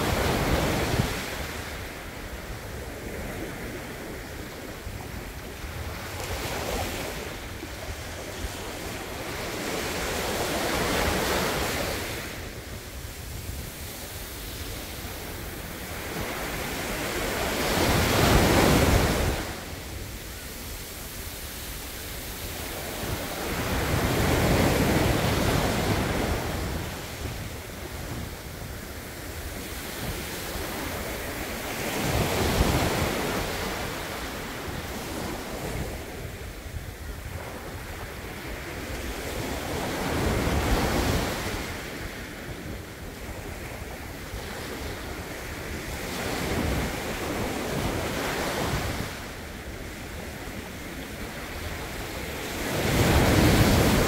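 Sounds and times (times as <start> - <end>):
sea waves breaking on beach: 0.0 - 54.0
wind rumbling on microphone: 0.0 - 54.0.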